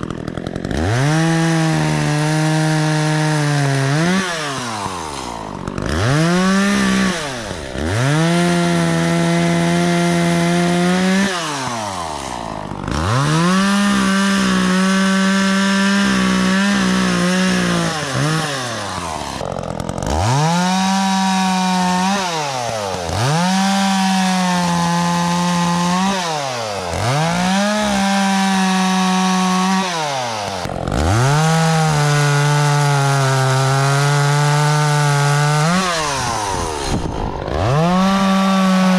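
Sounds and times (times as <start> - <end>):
chainsaw revving cutting wood: 0.0 - 38.9.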